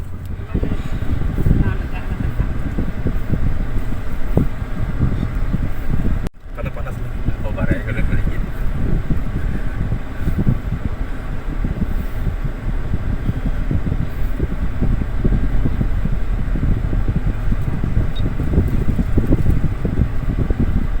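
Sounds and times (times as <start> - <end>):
vehicle road rumble: 0.0 - 21.0
wind buffeting microphone: 0.0 - 21.0.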